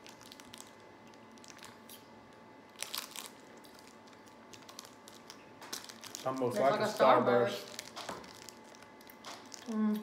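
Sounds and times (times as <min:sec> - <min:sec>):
chewing candy: 0:00.0 - 0:10.0.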